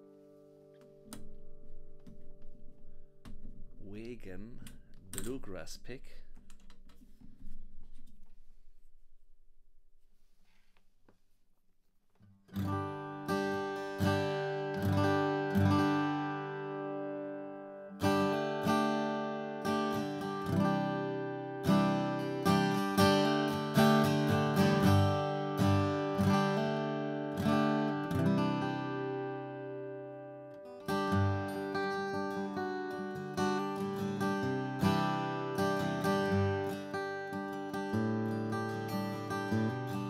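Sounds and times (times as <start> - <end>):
acoustic guitar notes and strums: 0.0 - 8.6, 12.1 - 40.0.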